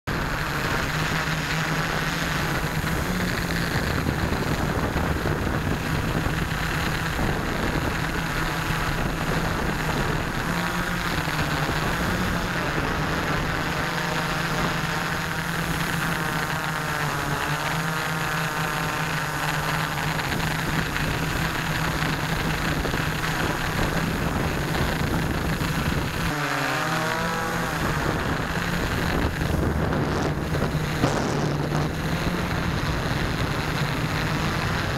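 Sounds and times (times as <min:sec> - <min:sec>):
model airplane propeller drone: 0:00.0 - 0:34.9
wind rushing over microphone: 0:00.1 - 0:34.9.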